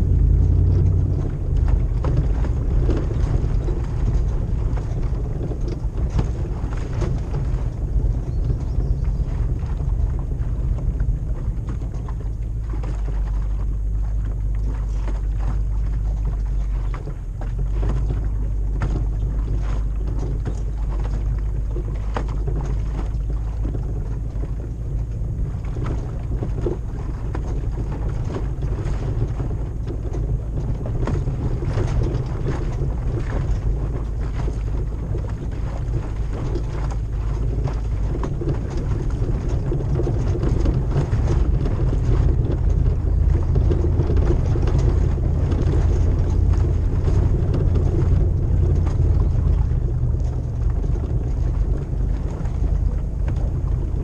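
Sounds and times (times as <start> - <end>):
knocks and rattles over rough ground: 0.0 - 54.0
low engine rumble while driving: 0.0 - 54.0.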